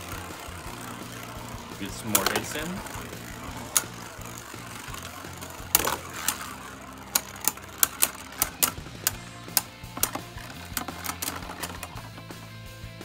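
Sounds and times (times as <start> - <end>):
spinning tops clashing plastic clicks: 0.0 - 12.4.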